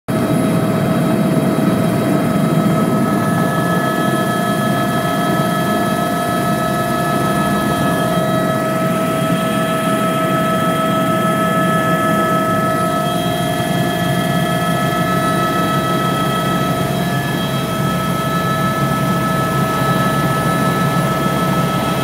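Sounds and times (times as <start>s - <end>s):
helicopter cabin whine and rumble: 0.1s - 22.0s.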